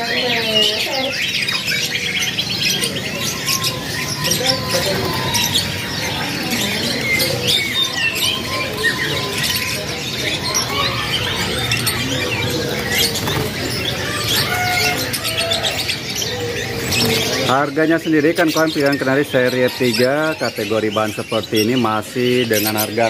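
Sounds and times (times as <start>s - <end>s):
canaries chirping and twittering: 0.0s - 23.0s
steady background din: 0.0s - 23.0s.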